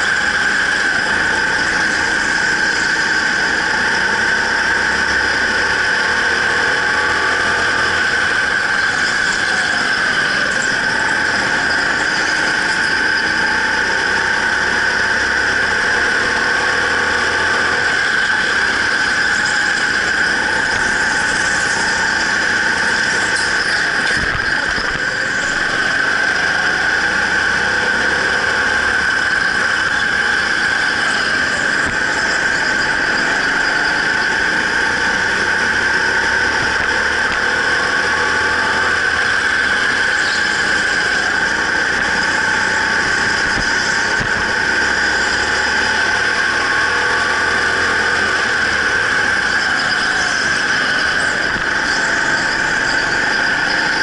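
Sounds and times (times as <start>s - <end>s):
go-kart engine: 0.0s - 54.0s
go-kart high-pitched squeal: 0.0s - 54.0s.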